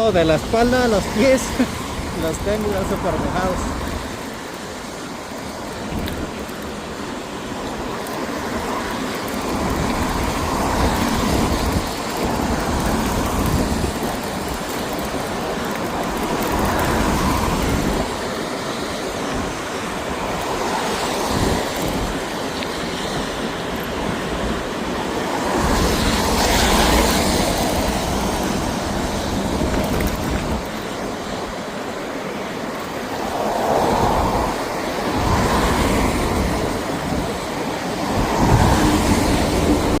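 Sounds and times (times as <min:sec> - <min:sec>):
tyres hissing on wet road: 0:00.0 - 0:40.0
wind buffeting microphone: 0:00.0 - 0:40.0.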